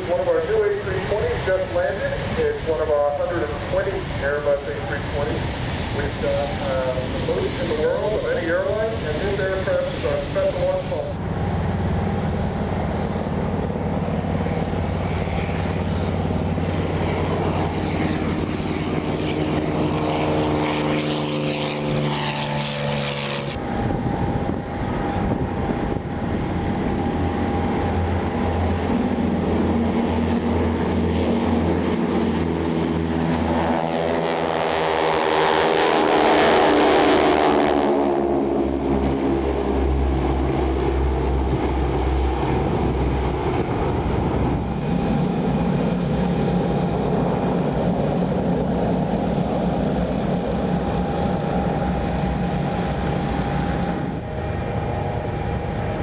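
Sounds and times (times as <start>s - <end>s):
propeller airplanes engine drone: 0.0s - 56.0s.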